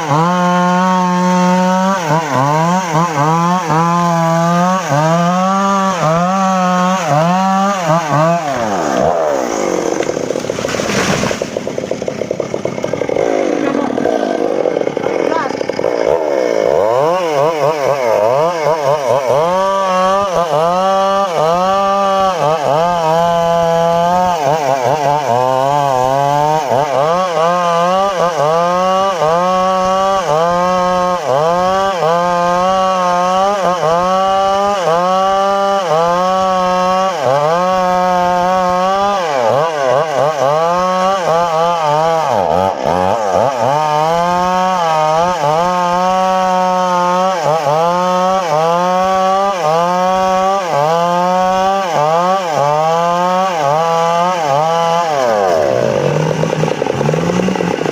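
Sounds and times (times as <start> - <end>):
circular saw cutting wood: 0.0 - 57.9.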